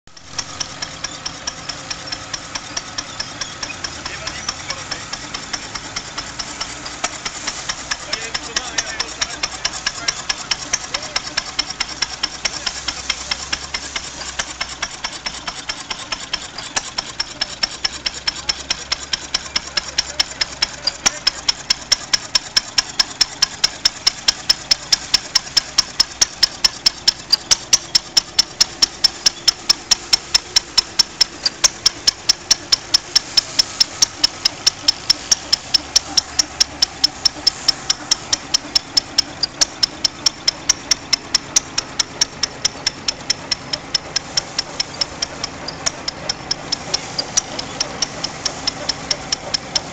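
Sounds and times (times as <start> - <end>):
stationary engine beating steadily: 0.0 - 49.9
threshing machine whirring: 0.1 - 49.9.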